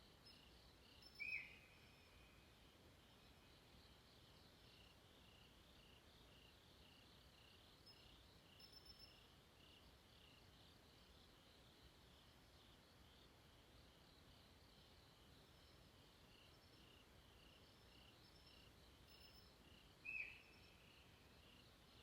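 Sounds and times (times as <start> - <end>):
night insects chirping: 0.0 - 22.0.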